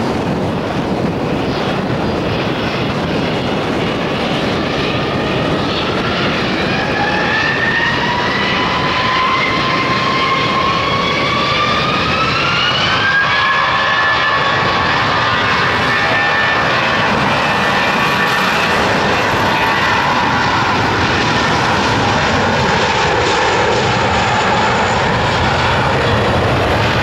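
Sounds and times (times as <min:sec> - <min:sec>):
jet engine rumble: 0:00.0 - 0:27.0
rising jet engine whine: 0:00.0 - 0:27.0.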